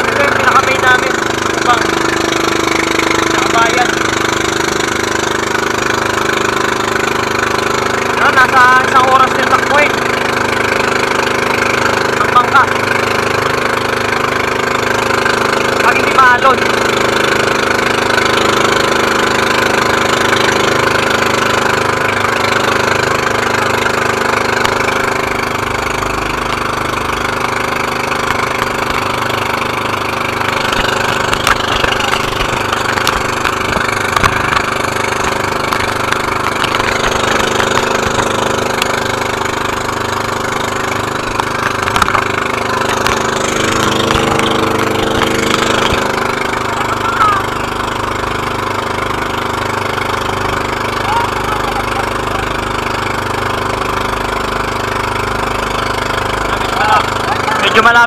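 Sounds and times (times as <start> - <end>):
boat engine running: 0.0 - 58.0
wind and water rushing: 0.0 - 58.0.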